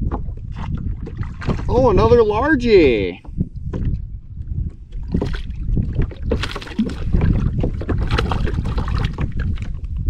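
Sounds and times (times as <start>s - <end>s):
water splashing against kayak: 0.0s - 10.0s
wind buffeting microphone: 0.0s - 10.0s.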